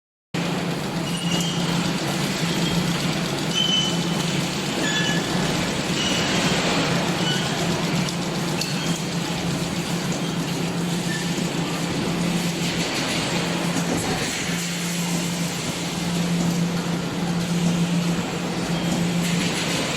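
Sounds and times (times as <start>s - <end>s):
factory machinery hum: 0.4s - 19.9s.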